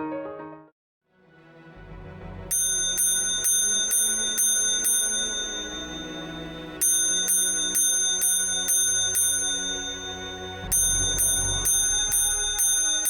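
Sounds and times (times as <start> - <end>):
fire alarm bell striking: 2.5 - 13.0.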